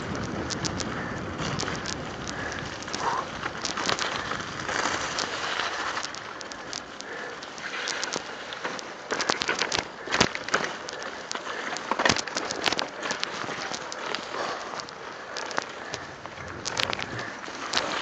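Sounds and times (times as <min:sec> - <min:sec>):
bike rattling and knocking: 0:00.0 - 0:07.2, 0:08.6 - 0:18.0
bike tyres hissing on wet road: 0:00.0 - 0:18.0.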